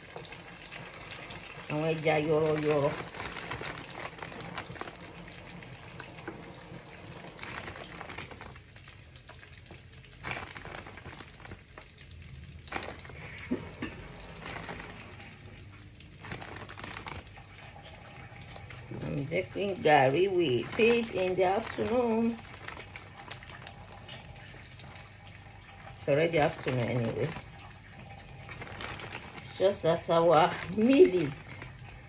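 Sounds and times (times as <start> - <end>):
fish frying in oil: 0.0 - 32.0.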